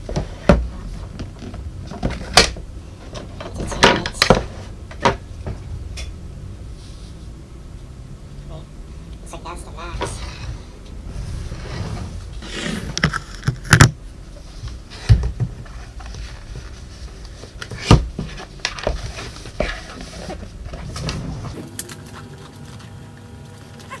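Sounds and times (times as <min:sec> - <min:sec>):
low rustling: 0:00.0 - 0:21.8.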